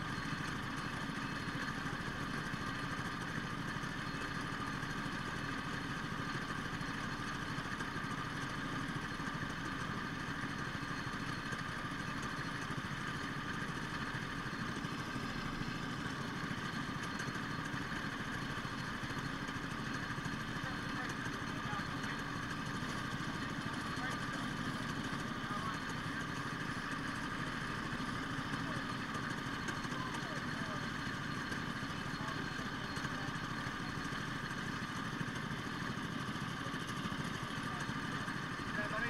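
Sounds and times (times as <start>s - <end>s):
go-kart engines idling: 0.0s - 39.0s.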